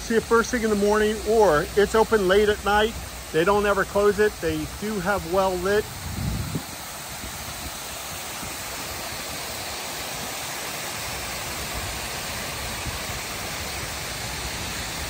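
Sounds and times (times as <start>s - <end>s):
water cascading into a pool: 0.0s - 15.0s.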